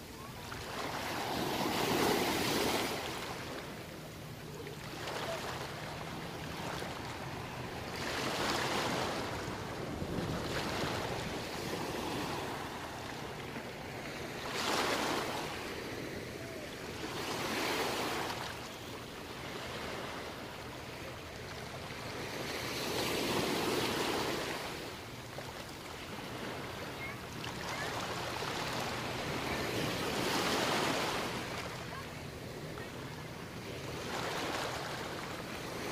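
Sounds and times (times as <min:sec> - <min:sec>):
waves breaking on sandy beach: 0:00.0 - 0:35.9.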